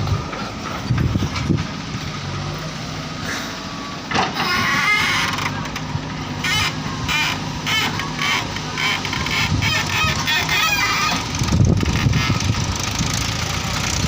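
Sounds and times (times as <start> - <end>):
heavy diesel engine humming: 0.0 - 14.0.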